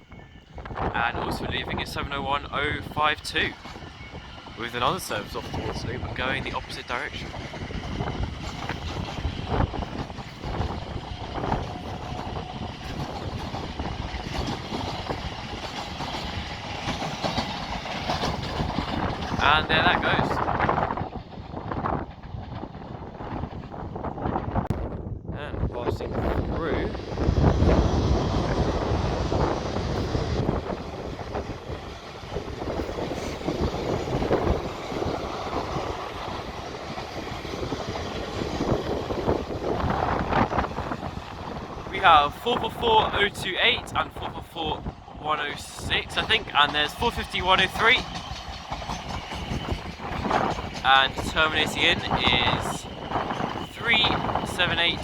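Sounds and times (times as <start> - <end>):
train wheels rumbling on rail: 0.0 - 55.0
wind buffeting microphone: 0.0 - 55.0.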